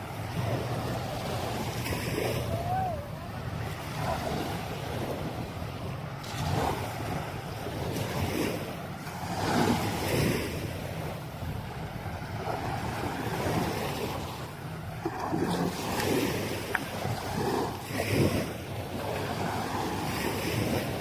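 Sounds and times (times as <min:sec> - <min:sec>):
small waves washing onto beach: 0:00.0 - 0:21.0
wind rumbling on microphone: 0:00.0 - 0:21.0.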